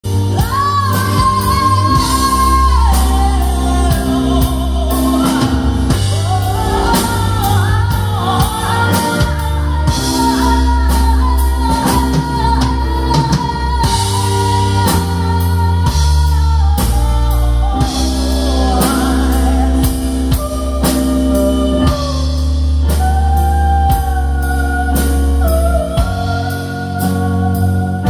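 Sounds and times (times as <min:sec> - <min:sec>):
bass notes: 0:00.0 - 0:28.0
drums: 0:00.0 - 0:28.0
high held sung vocal: 0:00.0 - 0:28.0.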